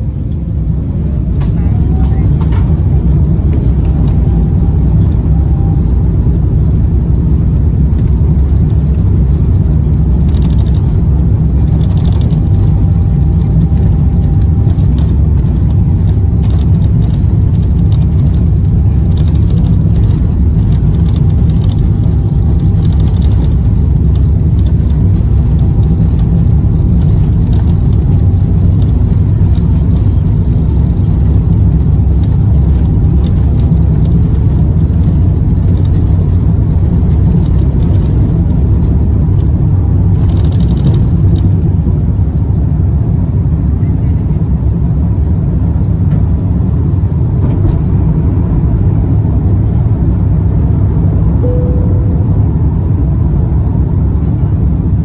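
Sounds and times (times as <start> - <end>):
jet cabin low rumble: 0.0 - 55.0.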